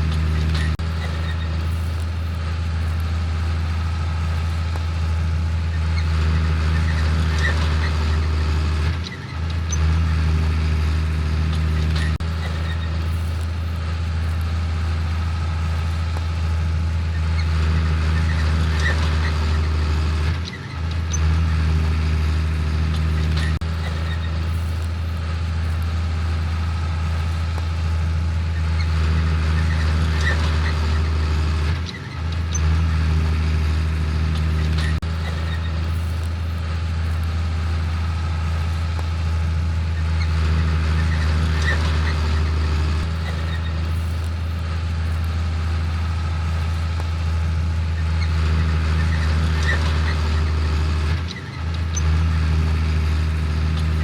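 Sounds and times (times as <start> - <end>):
diesel farm machinery droning: 0.0 - 54.0.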